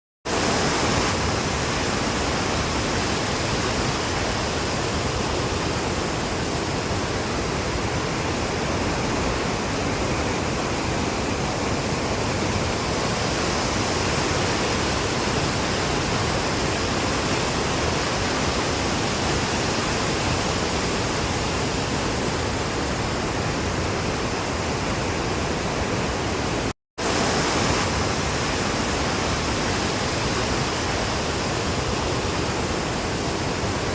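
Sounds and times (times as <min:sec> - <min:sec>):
waterfall crashing: 0:00.3 - 0:33.9.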